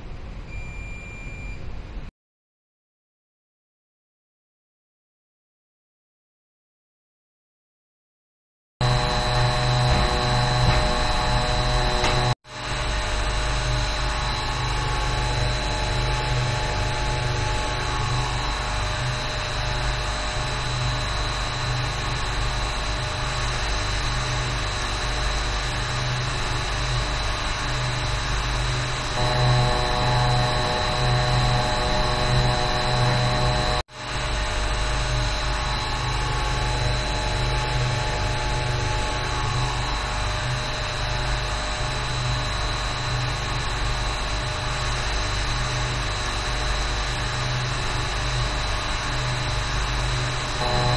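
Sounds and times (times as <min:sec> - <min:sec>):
engine-room machinery hum: 0:08.8 - 0:50.9
high machinery whine: 0:08.8 - 0:50.9.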